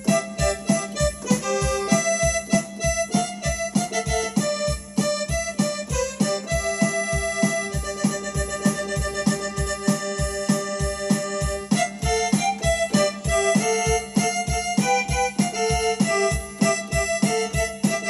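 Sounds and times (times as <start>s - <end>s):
keyboard accordion melody: 0.0s - 18.0s
steady low bass beat: 0.0s - 18.0s.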